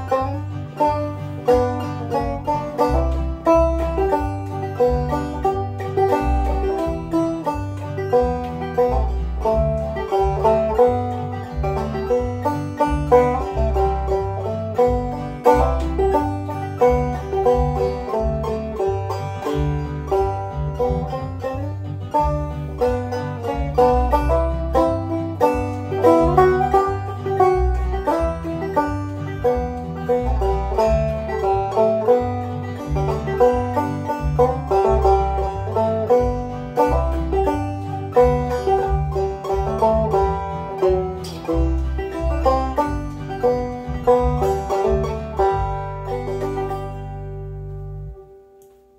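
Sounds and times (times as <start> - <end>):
backing track with bass line: 0.0 - 48.4
banjo plucking and strumming: 0.0 - 48.7.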